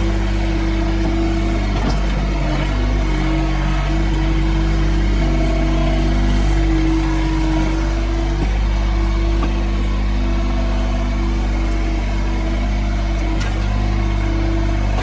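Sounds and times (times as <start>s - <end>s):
excavator diesel engine running: 0.0s - 15.0s
hydraulic whine: 0.0s - 15.0s.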